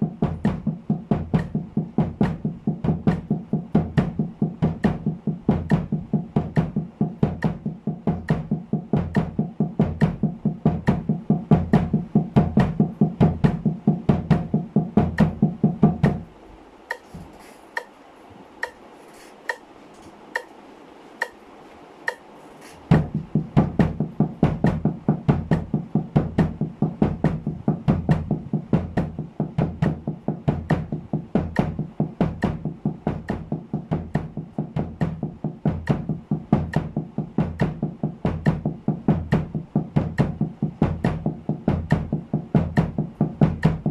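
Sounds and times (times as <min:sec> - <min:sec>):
bass drum kicks: 0:00.0 - 0:16.3, 0:22.9 - 0:43.9
metronome ticks: 0:00.0 - 0:18.0, 0:18.6 - 0:20.6, 0:21.2 - 0:21.4, 0:22.0 - 0:22.3, 0:22.9 - 0:43.9
muffled snare drum: 0:00.0 - 0:20.6, 0:21.2 - 0:43.9.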